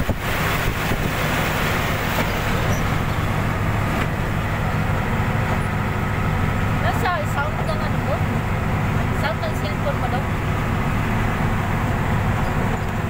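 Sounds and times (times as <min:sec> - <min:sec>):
road and engine noise: 0:00.0 - 0:13.0.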